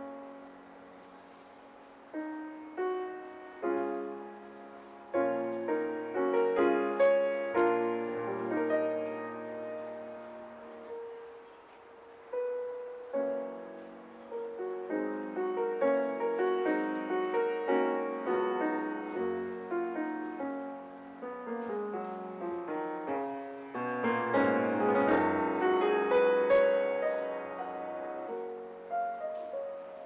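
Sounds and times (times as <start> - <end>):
solo grand piano playing: 0.0 - 30.0.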